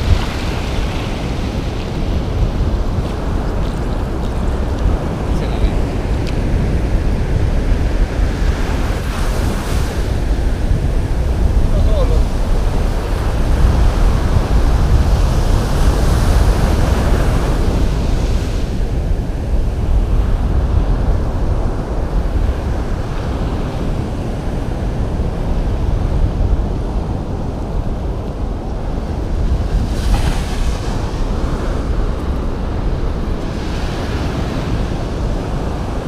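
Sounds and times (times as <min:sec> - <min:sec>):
surf washing on beach: 0:00.0 - 0:36.0
wind buffeting microphone: 0:00.0 - 0:36.0.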